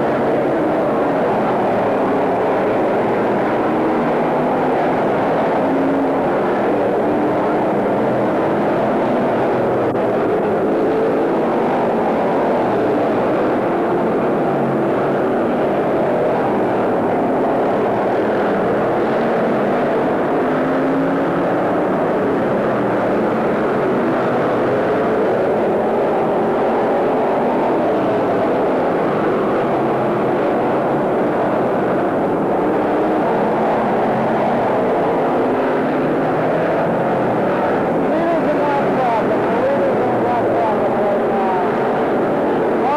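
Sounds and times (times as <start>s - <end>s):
race car engines roaring: 0.0s - 42.9s.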